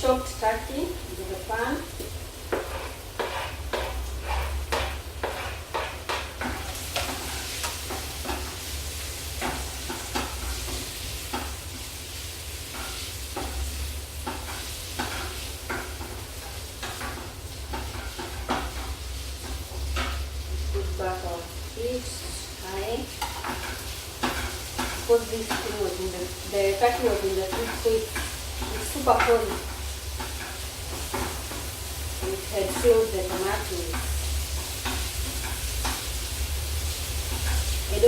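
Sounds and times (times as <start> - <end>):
food sizzling in a frying pan: 0.0 - 38.0
utensil scraping a pan: 1.5 - 38.0.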